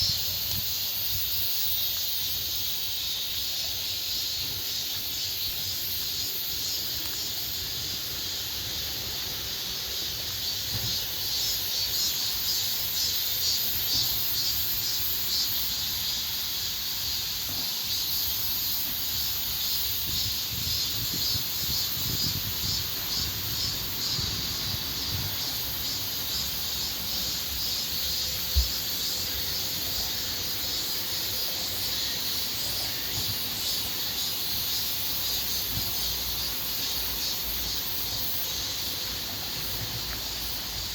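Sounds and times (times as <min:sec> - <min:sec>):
cicadas singing: 0:00.0 - 0:40.9
crickets shrilling: 0:00.0 - 0:40.9.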